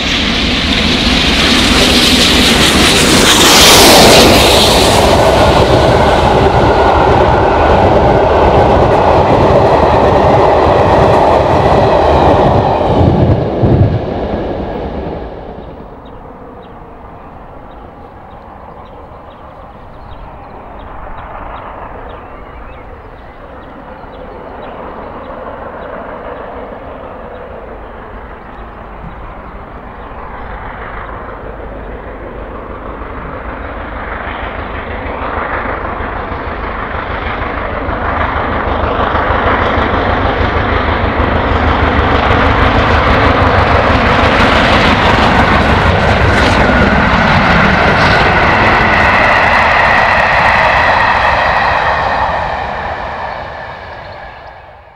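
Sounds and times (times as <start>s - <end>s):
steam locomotive passing: 0.0s - 54.9s.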